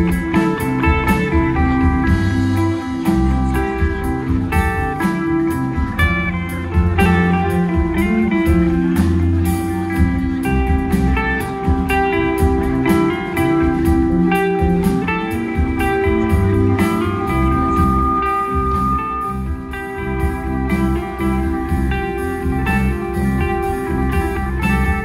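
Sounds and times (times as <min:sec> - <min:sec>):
live band with guitar: 0:00.0 - 0:25.0.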